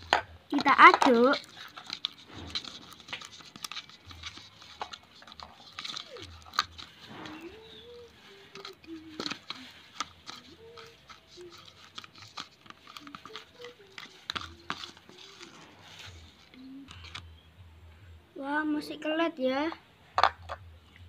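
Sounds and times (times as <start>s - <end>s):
spoon scraping plastic bowl: 0.0s - 17.4s.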